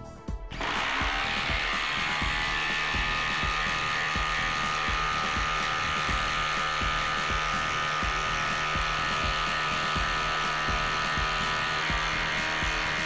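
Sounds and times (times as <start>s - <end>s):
background music with beat: 0.0s - 13.0s
impact driver hammering: 0.6s - 13.0s.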